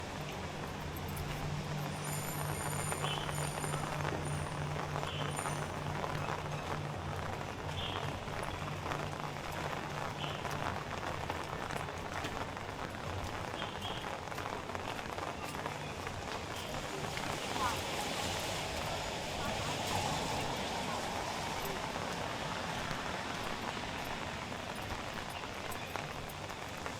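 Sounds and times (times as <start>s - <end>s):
rain falling on street: 0.0s - 26.9s.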